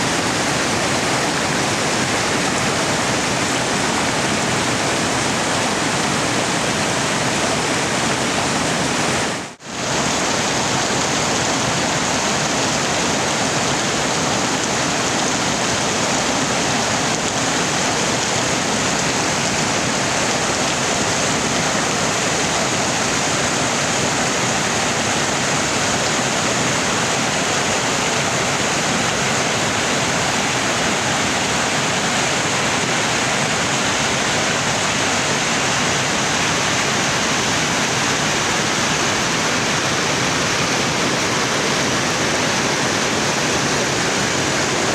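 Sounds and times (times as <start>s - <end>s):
rushing water: 0.0s - 44.9s.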